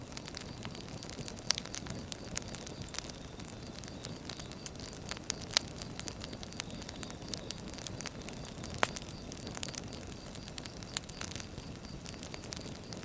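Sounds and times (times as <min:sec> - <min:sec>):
burning logs crackling and popping: 0:00.0 - 0:13.0
fire rumbling and hissing: 0:00.0 - 0:13.0.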